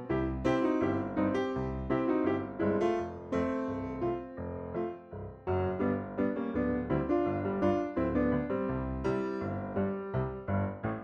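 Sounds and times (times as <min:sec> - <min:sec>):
piano-like keyboard music: 0:00.0 - 0:11.0.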